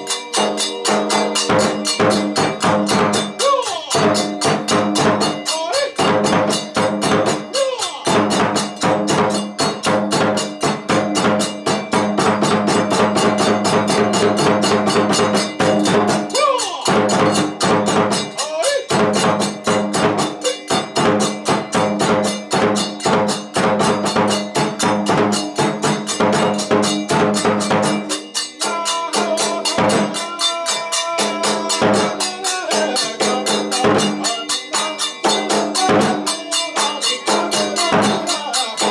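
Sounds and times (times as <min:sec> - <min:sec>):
drum and cymbal beats: 0:00.0 - 0:38.9.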